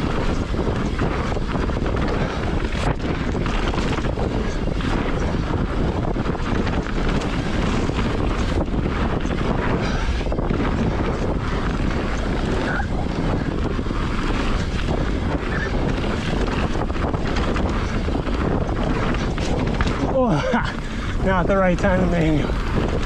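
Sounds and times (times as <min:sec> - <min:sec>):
bike knocks and rattles: 0:00.0 - 0:23.0
bike tyres rumbling on dirt: 0:00.0 - 0:23.0
wind on microphone: 0:00.0 - 0:23.0.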